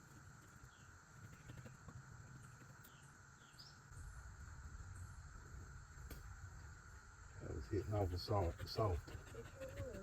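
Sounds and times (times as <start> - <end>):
insect drone: 0.0 - 10.0.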